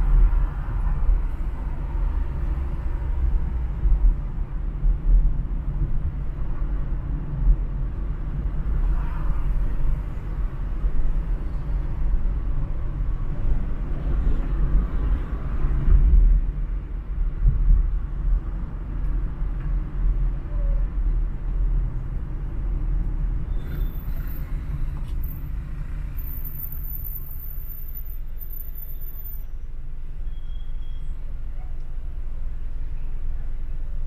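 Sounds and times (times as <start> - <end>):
car road rumble: 0.0 - 34.0.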